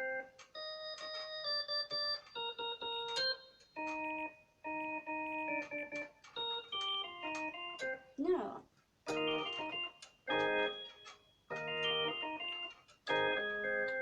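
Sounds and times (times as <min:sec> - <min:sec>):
electric organ chords and notes: 0:00.0 - 0:08.1, 0:09.1 - 0:14.0.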